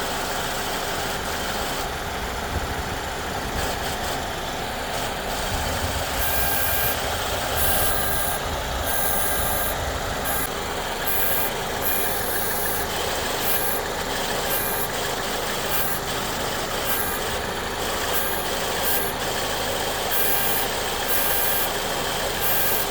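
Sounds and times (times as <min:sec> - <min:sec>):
car engine idling: 0:00.0 - 0:22.9
high-frequency compressor buzz: 0:00.0 - 0:22.9.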